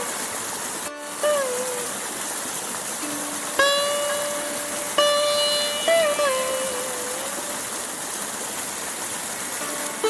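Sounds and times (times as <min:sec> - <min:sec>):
stream flowing: 0:00.0 - 0:10.0.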